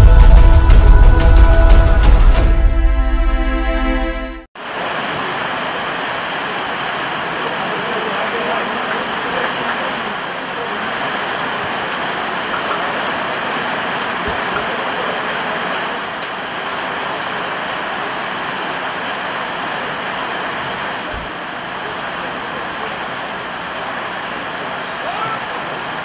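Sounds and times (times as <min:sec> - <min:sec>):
steady rushing noise: 0:04.6 - 0:26.0.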